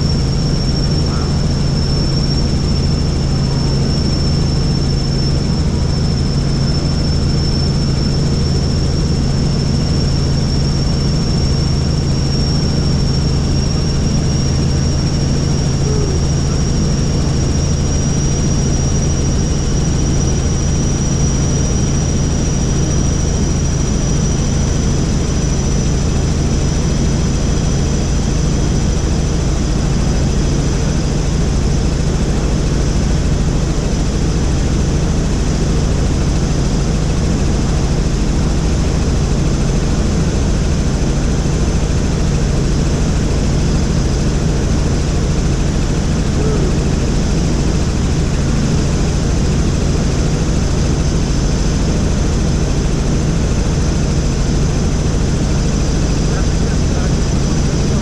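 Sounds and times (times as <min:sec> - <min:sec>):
helicopter in flight: 0:00.0 - 0:58.0.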